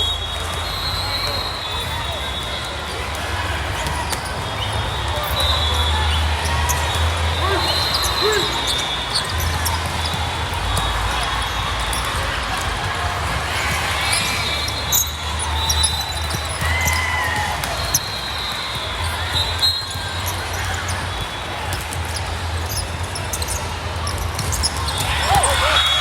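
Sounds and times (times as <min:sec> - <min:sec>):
distant voices in a hall: 0:00.0 - 0:26.0
sharp volleyball hits: 0:02.9 - 0:26.0.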